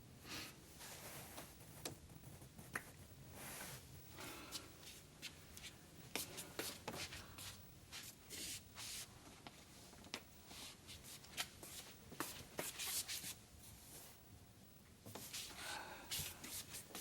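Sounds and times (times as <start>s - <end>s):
faint rustling and handling noise: 0.0s - 17.0s.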